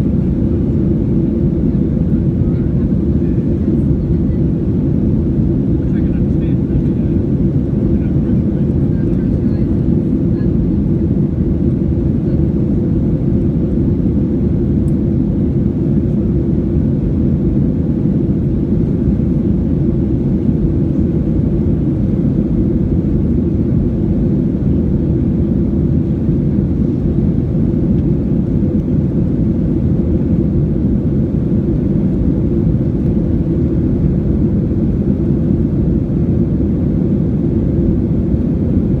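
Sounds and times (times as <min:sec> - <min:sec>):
jet engine cabin rumble: 0:00.0 - 0:39.0.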